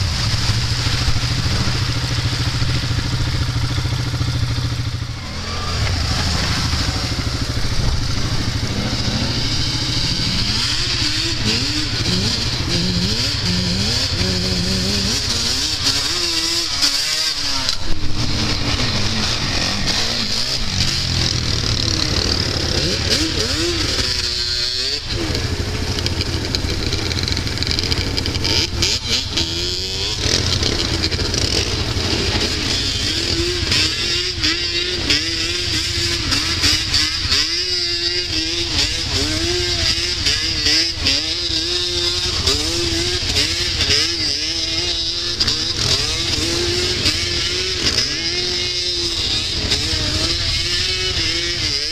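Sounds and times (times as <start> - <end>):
quad engines revving: 0.0 - 51.9.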